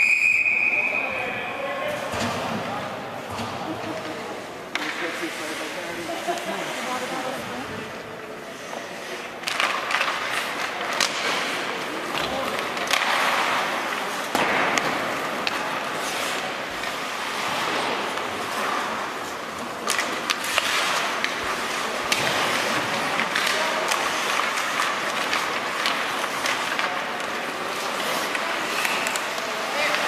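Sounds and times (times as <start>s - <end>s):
hockey sticks and puck clacking: 0.0s - 30.0s
skate blades scraping ice: 3.2s - 30.0s.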